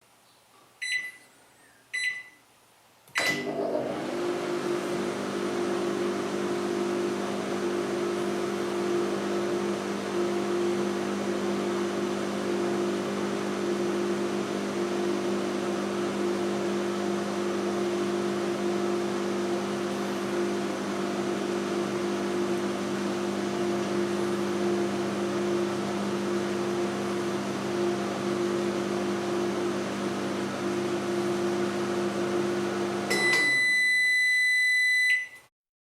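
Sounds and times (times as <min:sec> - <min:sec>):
microwave oven humming: 0:03.2 - 0:35.4.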